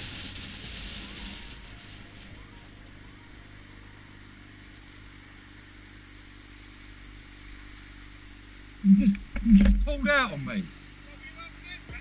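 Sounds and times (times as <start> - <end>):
low traffic noise: 0.0 - 12.0
motorcycle engine idling: 0.0 - 12.0.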